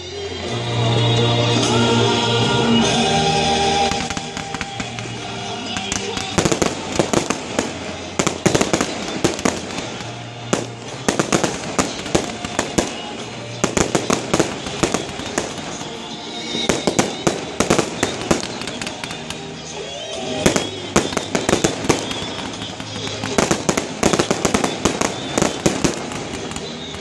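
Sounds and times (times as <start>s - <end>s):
music: 0.0s - 27.0s
fireworks bangs and crackles: 2.8s - 27.0s.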